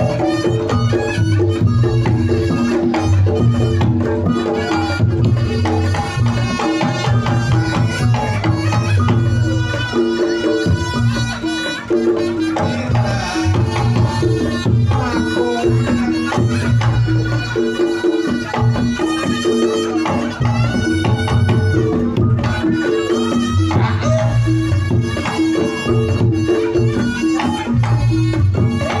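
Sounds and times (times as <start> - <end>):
drums beating: 0.0 - 29.0.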